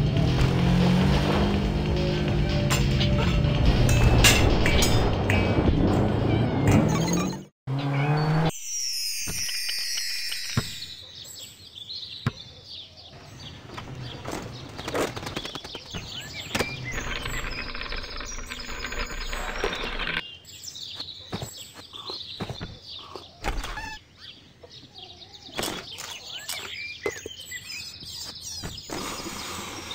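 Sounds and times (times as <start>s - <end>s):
birds chirping and tweeting: 2.5s - 29.9s.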